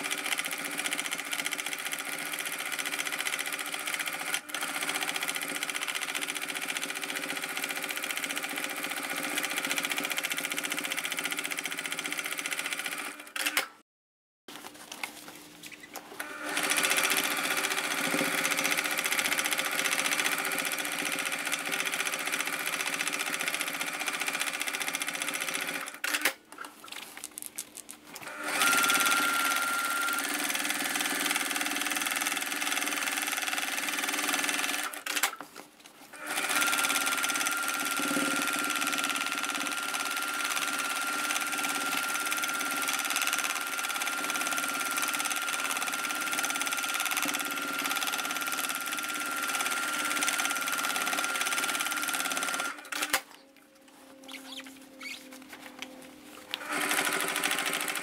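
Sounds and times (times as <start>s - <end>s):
sewing machine stitching: 0.0s - 13.7s, 16.2s - 26.4s, 28.2s - 35.4s, 36.2s - 53.3s, 56.5s - 58.0s.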